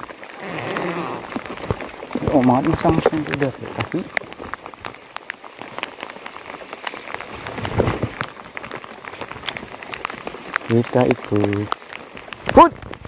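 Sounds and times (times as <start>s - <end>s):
rain hiss: 0.0s - 13.0s
raindrops ticking near microphone: 0.0s - 13.0s.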